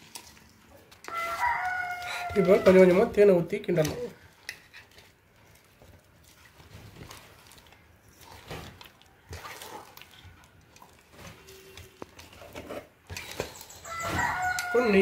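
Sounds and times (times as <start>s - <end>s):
ladle stirring sticky paste: 0.0s - 15.0s.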